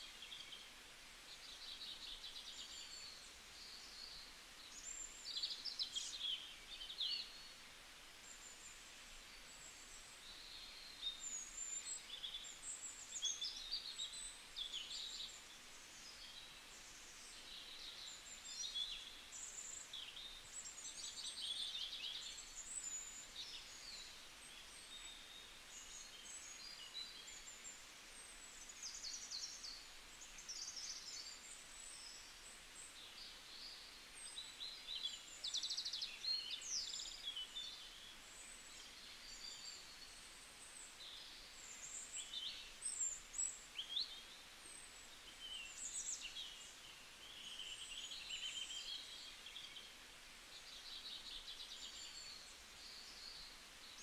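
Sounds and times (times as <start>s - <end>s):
steady low hiss: 0.0s - 54.0s
small birds chirping and trilling: 8.2s - 54.0s.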